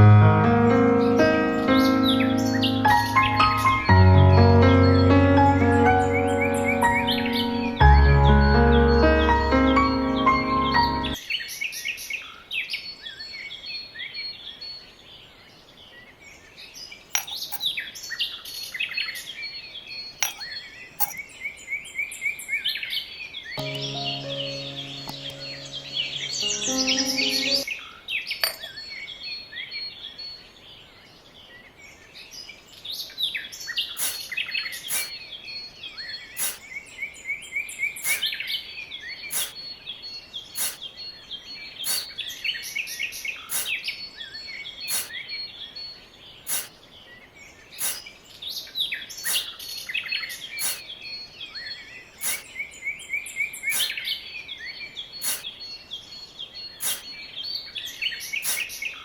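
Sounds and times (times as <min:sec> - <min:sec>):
small birds chirping: 0:01.2 - 0:12.8, 0:15.9 - 0:27.7, 0:32.8 - 0:59.0.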